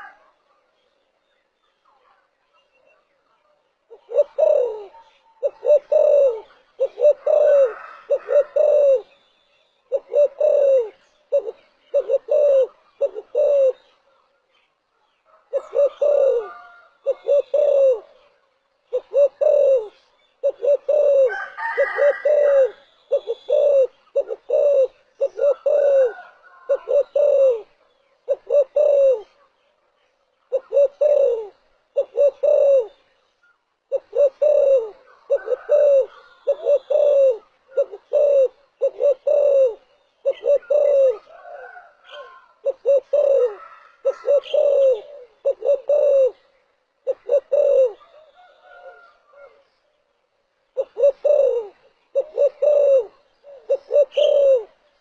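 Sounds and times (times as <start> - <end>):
dove cooing: 0.0 - 0.5, 3.8 - 9.2, 9.8 - 14.2, 15.2 - 29.5, 30.4 - 33.2, 33.8 - 49.7, 50.7 - 55.0.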